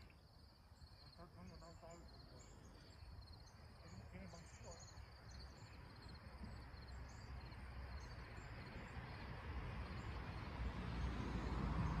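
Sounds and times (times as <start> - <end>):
insect chirps: 0.0 - 12.0.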